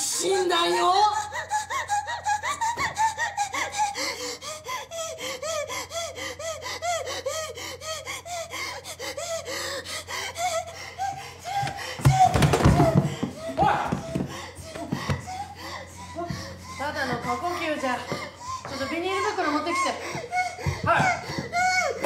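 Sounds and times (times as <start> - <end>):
woman sobbing and hyperventilating: 0.0 - 22.0.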